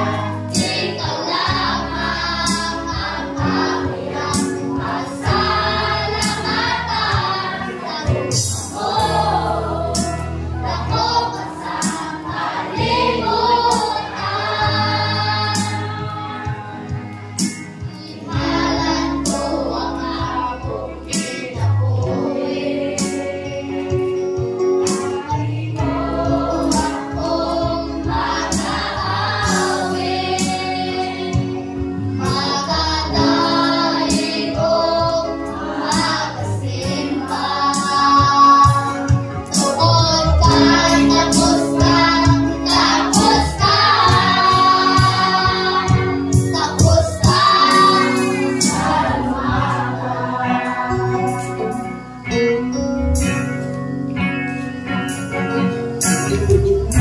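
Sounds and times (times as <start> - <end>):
children and adults singing: 0.0 - 52.4, 56.2 - 57.0
musical accompaniment: 0.0 - 57.0.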